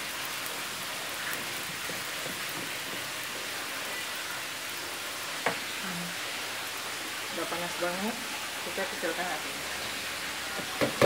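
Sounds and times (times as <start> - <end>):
butter sizzling in a frying pan: 0.0 - 11.0.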